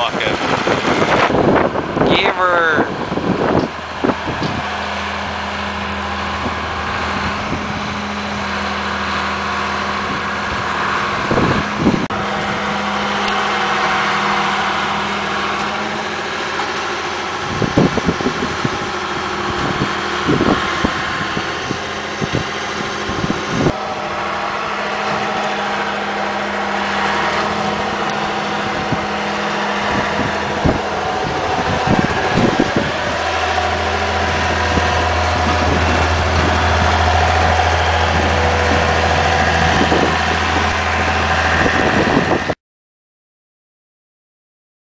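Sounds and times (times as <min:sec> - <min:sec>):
loader bucket pushing snow: 0:00.0 - 0:42.6
tractor engine running: 0:00.0 - 0:42.6.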